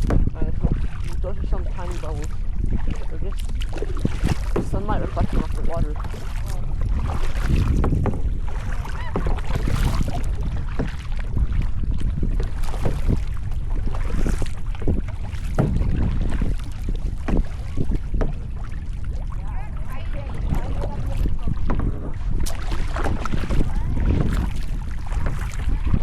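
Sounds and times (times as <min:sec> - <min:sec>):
paddle splashing water: 0:00.0 - 0:26.0
wind buffeting microphone: 0:00.0 - 0:26.0.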